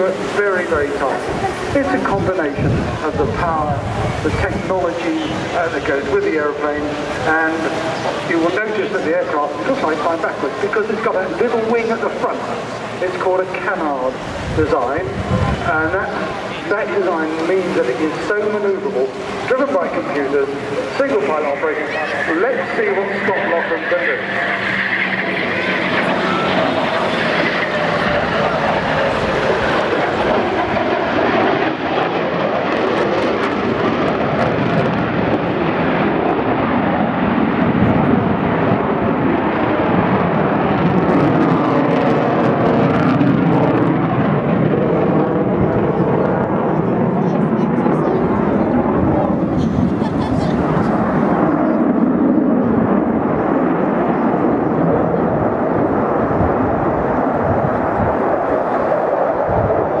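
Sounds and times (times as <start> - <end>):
fighter jet engines roaring: 0.0 - 60.0.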